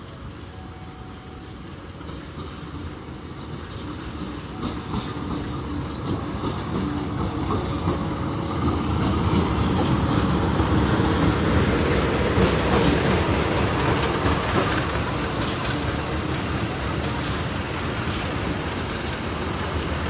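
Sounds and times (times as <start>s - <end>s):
train wheels clattering over rail joints: 0.0s - 20.0s.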